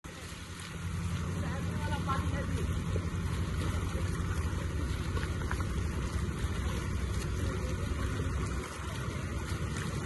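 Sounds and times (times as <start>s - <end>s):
road traffic rumble: 0.0s - 10.0s
running water: 0.0s - 10.0s.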